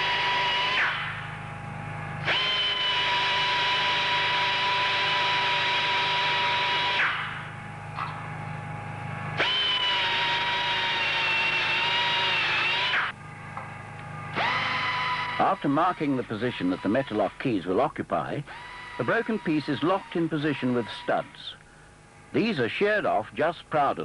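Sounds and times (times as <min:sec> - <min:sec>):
power drill whine: 0:00.0 - 0:13.2, 0:14.2 - 0:17.4, 0:18.5 - 0:21.6.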